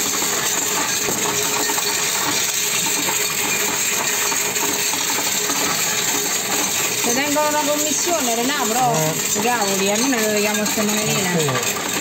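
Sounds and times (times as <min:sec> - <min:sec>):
coins clattering into machine: 0:00.0 - 0:12.0.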